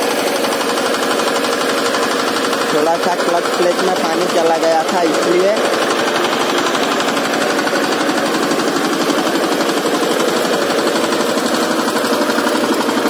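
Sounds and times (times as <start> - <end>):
diesel power tiller engine running: 0.0 - 13.0.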